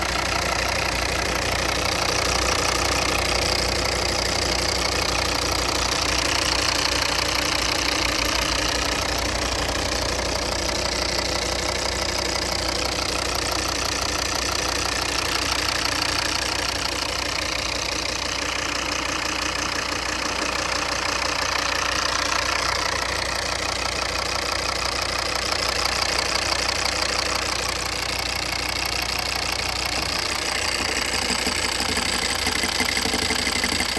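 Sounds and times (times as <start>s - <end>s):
diesel engine knocking: 0.0s - 33.9s.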